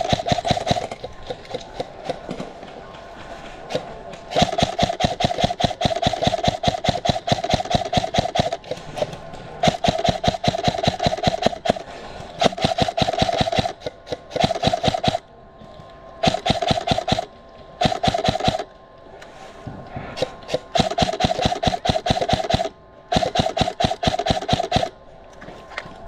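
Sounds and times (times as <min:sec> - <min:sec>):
airsoft rifle bursts: 0:00.0 - 0:02.4, 0:03.6 - 0:15.3, 0:16.2 - 0:18.7, 0:20.2 - 0:25.0
gearbox motor whine: 0:00.0 - 0:02.5, 0:03.7 - 0:19.3, 0:20.1 - 0:26.0.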